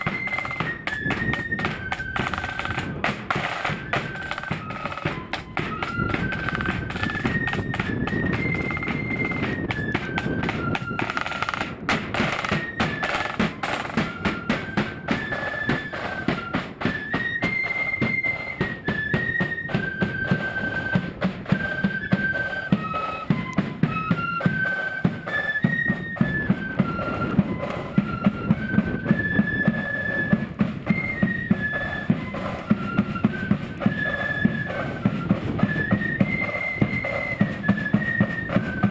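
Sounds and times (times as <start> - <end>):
high flute melody: 0.0 - 38.9
rapid snare drumming: 0.0 - 38.9.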